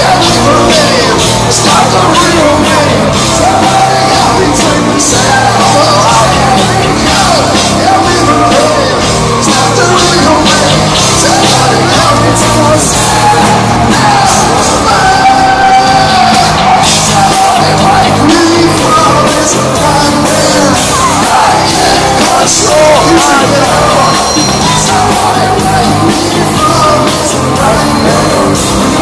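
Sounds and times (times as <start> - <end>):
man singing: 0.0 - 29.0
rock band playing live: 0.0 - 29.0.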